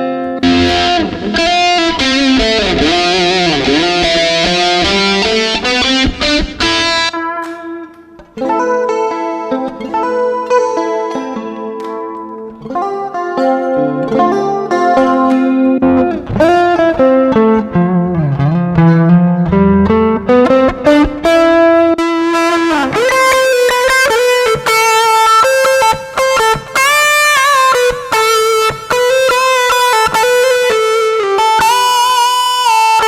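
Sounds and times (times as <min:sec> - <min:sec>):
electric bass melodic line: 0:00.0 - 0:33.0.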